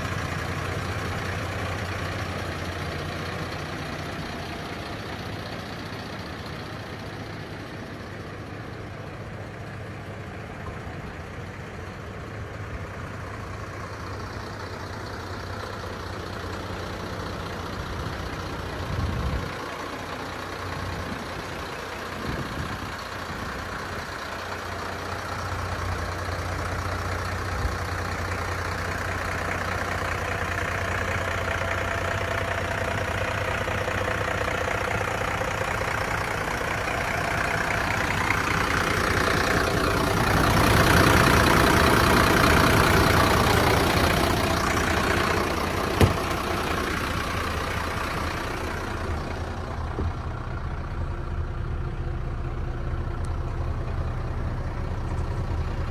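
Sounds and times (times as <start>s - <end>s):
truck diesel engine idling: 0.0s - 55.9s.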